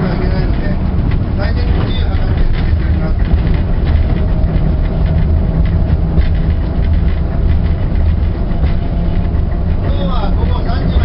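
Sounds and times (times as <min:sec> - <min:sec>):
diesel engine drone: 0:00.0 - 0:11.0.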